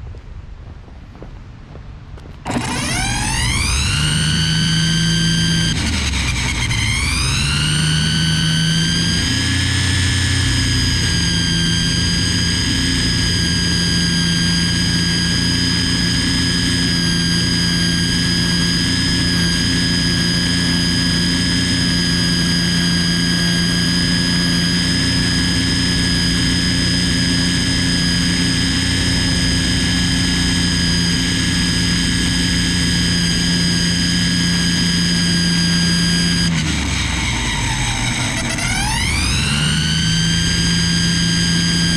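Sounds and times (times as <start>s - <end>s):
string trimmer whining: 2.4s - 41.9s.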